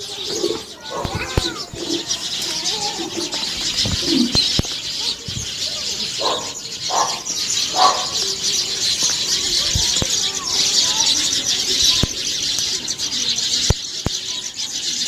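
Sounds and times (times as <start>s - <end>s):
birds chirping: 0.0s - 15.0s
lower bird calls: 0.0s - 15.0s.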